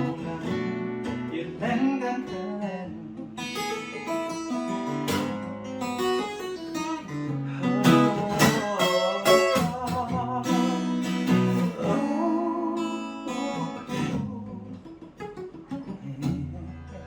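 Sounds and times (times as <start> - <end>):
acoustic guitar strumming and picking: 0.0 - 17.0.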